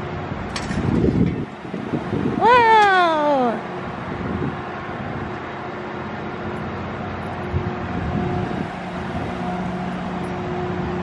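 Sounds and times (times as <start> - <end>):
droning machine hum: 0.0 - 11.0
traffic wash: 0.0 - 11.0.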